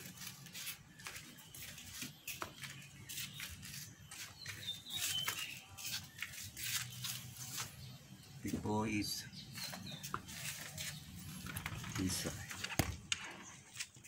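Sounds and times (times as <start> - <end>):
small bird chirping: 0.0 - 12.5.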